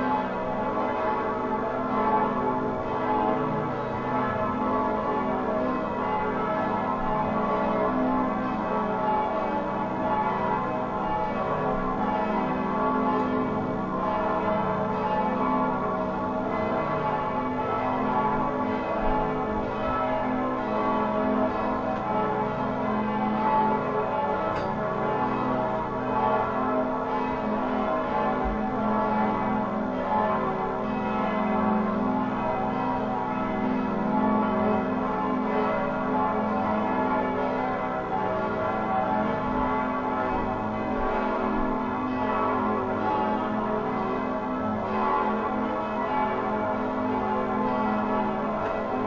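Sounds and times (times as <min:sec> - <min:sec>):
bells ringing: 0:00.0 - 0:49.0.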